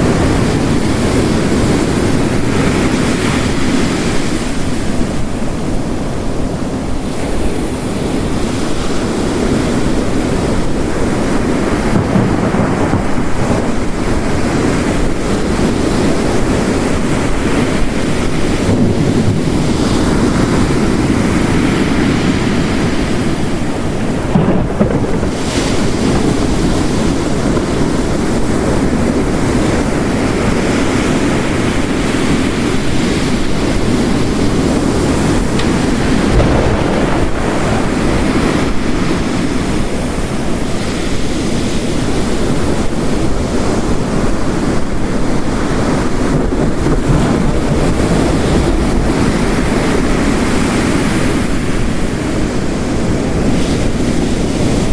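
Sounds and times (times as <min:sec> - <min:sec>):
heavy rain: 0:00.0 - 0:54.9
ocean waves crashing on rocks: 0:00.0 - 0:54.9.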